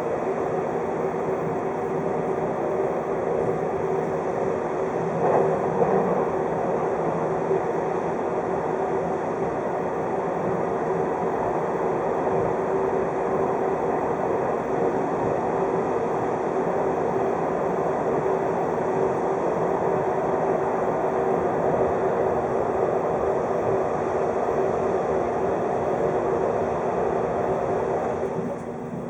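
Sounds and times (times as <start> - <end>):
constant train hum: 0.0 - 29.0
train wheels rumbling on rail: 0.0 - 29.0.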